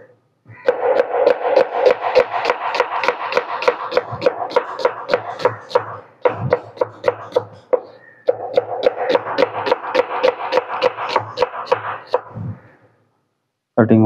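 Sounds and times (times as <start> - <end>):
knife chopping on wooden board: 0.6 - 12.3.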